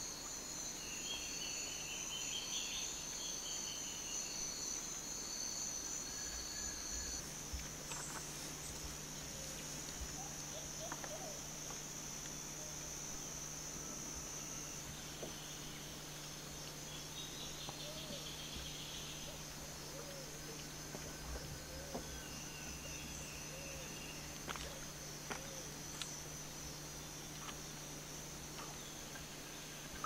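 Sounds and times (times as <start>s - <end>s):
high-pitched insect drone: 0.0s - 30.0s
pulsing insect trill: 0.0s - 30.0s.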